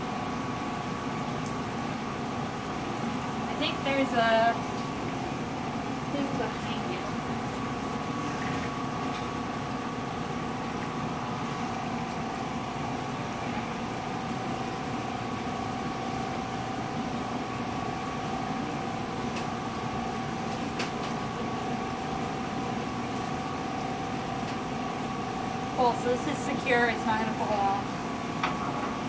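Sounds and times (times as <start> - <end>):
fan-like hum: 0.0 - 29.0.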